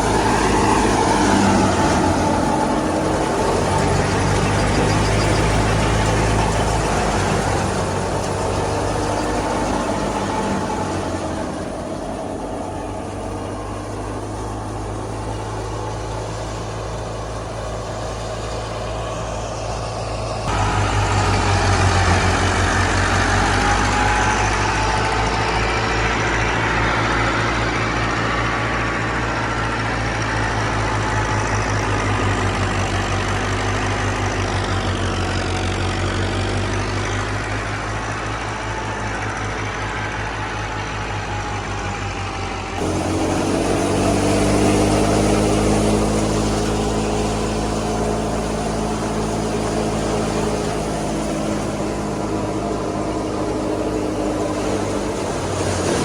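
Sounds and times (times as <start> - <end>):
thresher machinery noise: 0.0 - 56.0
tractor diesel engine running: 0.0 - 56.0.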